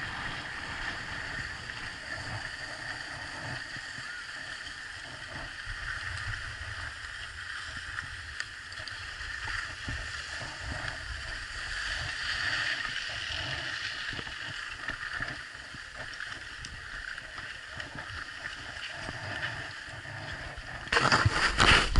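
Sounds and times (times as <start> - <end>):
skis scraping over packed snow: 0.0 - 21.9
wind rumbling on microphone: 0.0 - 21.9.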